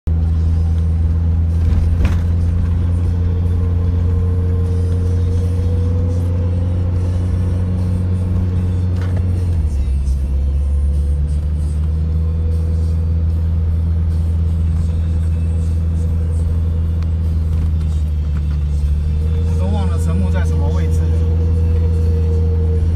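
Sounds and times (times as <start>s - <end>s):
car engine drone from inside cabin: 0.1s - 22.9s.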